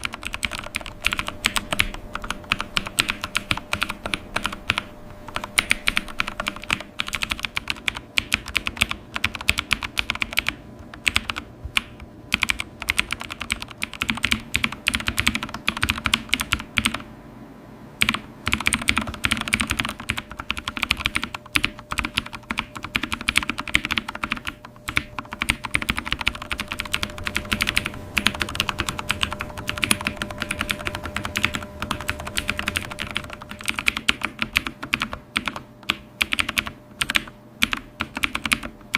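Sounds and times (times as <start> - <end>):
keyboard typing: 0.0 - 17.1, 18.0 - 38.9.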